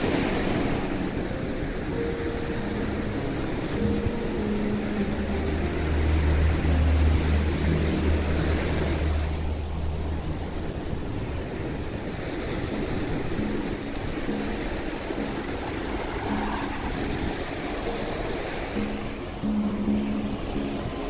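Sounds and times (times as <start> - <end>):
small waves washing onto beach: 0.0 - 21.0.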